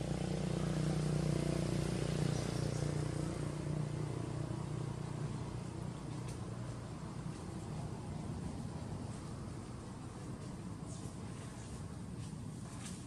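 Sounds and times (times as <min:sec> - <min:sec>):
vehicle engine humming: 0:00.0 - 0:12.7.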